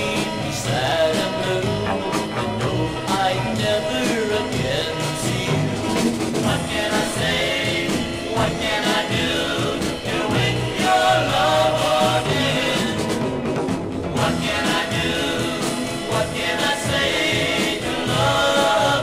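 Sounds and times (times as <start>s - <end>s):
pop song with singer and band: 0.0s - 19.0s.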